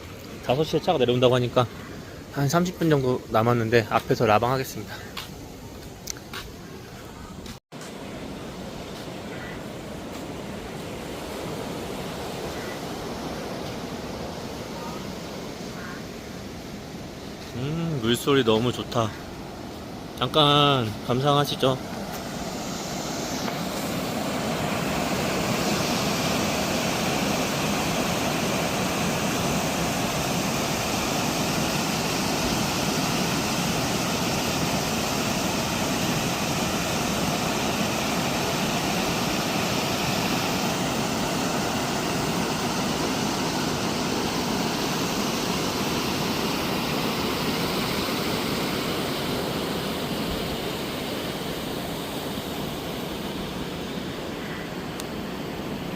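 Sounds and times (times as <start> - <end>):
rushing mountain water: 7.5 - 55.9.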